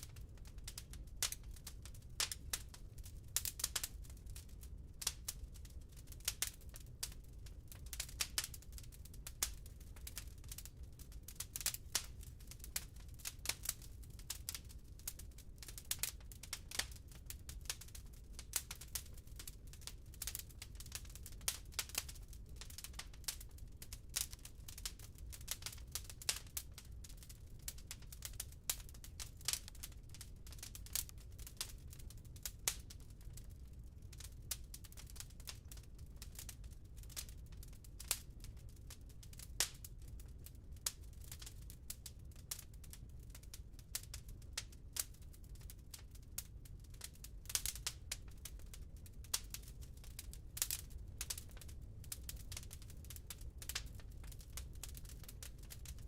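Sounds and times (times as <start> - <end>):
firewood crackling: 0.0 - 43.4, 44.0 - 56.0.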